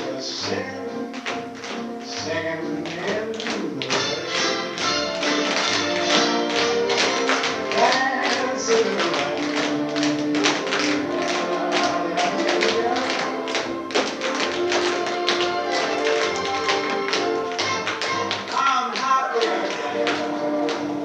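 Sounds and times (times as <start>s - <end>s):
recorded music: 0.0s - 21.0s
tap shoes clicking: 0.4s - 21.0s.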